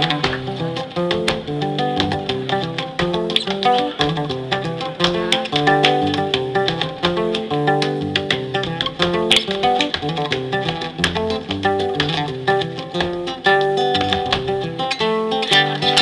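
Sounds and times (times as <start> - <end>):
shoes tapping on hard floor: 0.0 - 14.8
acoustic guitar tune: 0.0 - 16.0.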